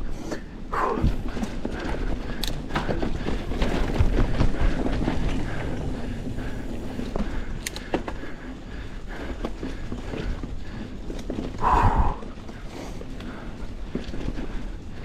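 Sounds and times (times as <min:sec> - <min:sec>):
bike tyre rumble on dirt: 0:00.0 - 0:15.0.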